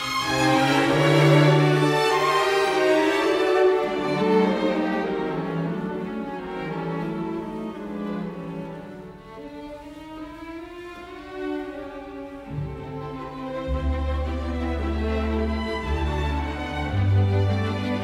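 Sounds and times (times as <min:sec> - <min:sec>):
slow bowed string music: 0:00.0 - 0:18.0.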